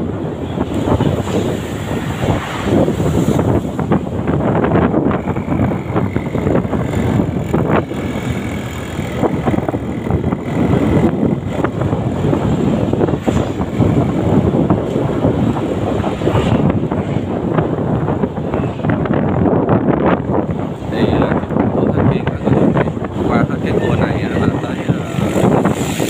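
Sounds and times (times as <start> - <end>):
road and engine noise: 0.0 - 26.0
wind buffeting microphone: 0.0 - 26.0.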